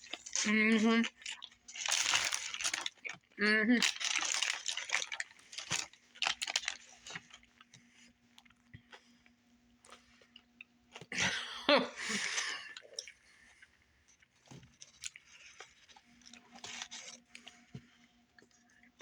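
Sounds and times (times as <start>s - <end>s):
person chewing crunchy sandwich: 0.0s - 11.2s, 12.2s - 19.0s.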